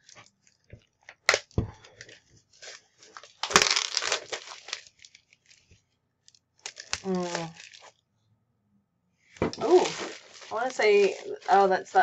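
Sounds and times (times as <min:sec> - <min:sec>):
plastic shrink-wrap crinkling: 0:00.0 - 0:08.0, 0:09.5 - 0:12.0.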